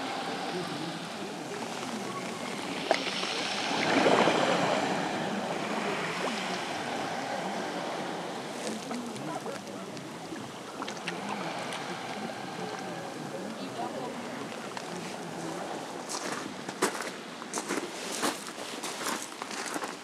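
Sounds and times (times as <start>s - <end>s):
waves lapping over stones: 0.0s - 20.0s.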